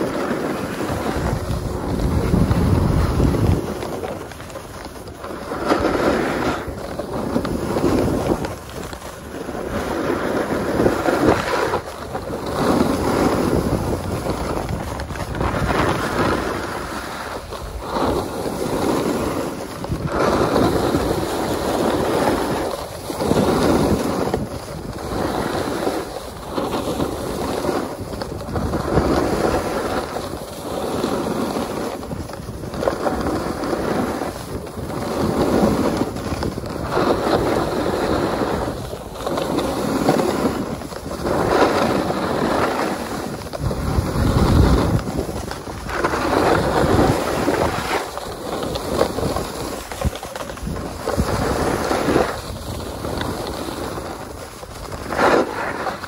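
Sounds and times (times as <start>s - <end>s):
snow scraping under board: 0.0s - 56.0s
wind on microphone: 0.0s - 56.0s.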